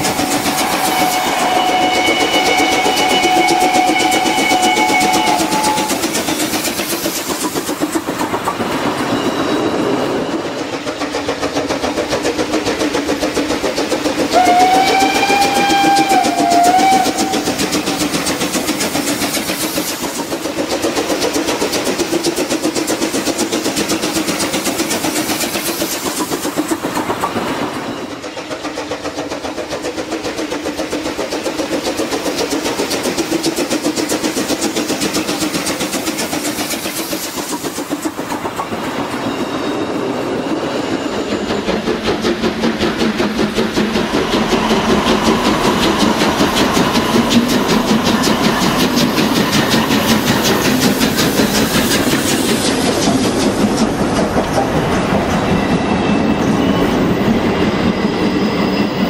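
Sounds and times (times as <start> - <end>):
model trains running: 0.0 - 59.0
wheels rattling on track: 0.0 - 59.0.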